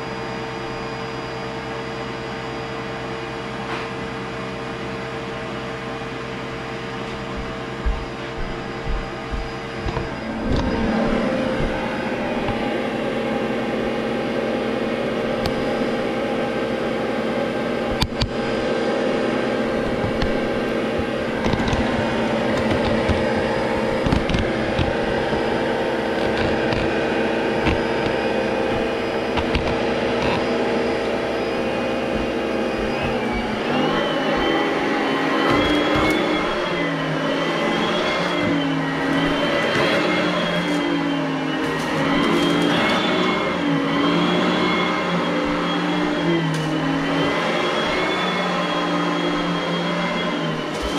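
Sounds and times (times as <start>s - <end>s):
vacuum cleaner motor humming: 0.0s - 50.9s.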